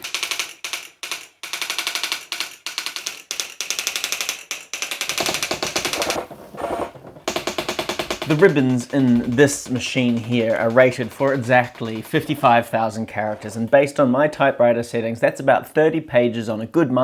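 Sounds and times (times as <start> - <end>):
electric typewriter printing: 0.0 - 13.9.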